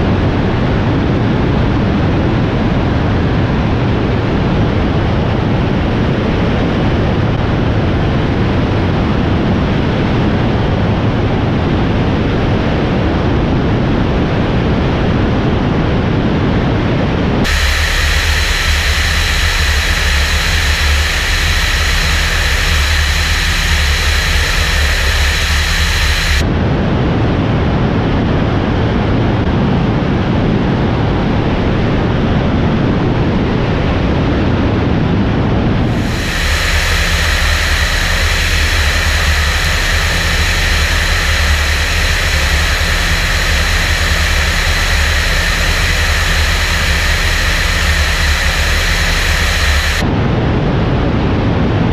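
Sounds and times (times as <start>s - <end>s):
light aircraft engine drone: 0.0s - 51.9s.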